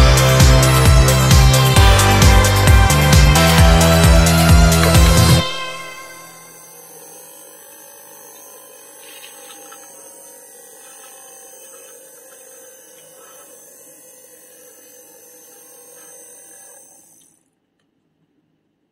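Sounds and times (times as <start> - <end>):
small electric motor whining: 0.0 - 17.5.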